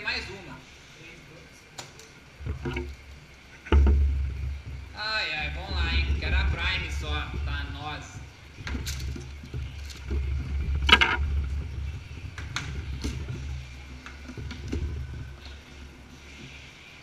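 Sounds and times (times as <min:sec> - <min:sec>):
low handling rumble: 0:02.4 - 0:17.0.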